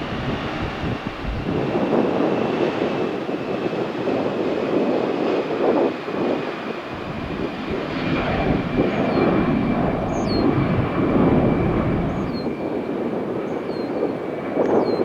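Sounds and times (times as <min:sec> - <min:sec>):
jet airliner taking off: 0:00.0 - 0:15.0.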